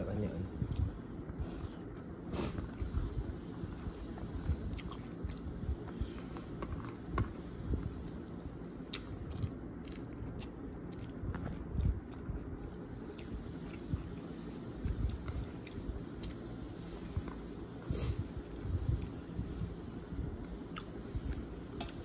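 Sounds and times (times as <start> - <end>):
person chewing food: 0.6 - 19.4, 20.4 - 22.0.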